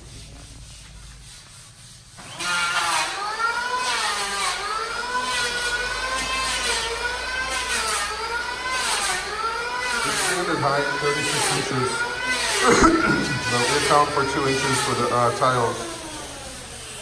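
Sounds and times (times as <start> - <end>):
power tool whining: 2.2 - 17.0.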